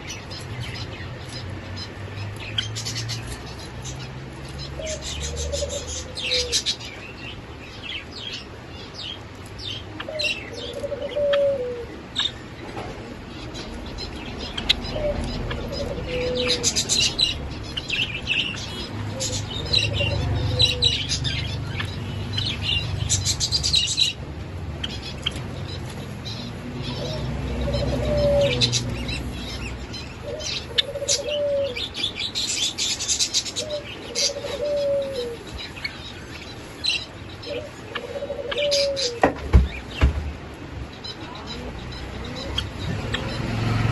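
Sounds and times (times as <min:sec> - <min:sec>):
sparrows chirping and trilling: 0:00.0 - 0:43.9.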